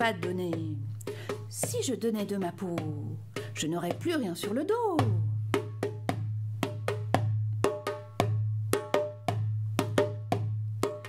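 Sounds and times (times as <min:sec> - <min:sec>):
hand percussion knocks: 0:00.0 - 0:11.0.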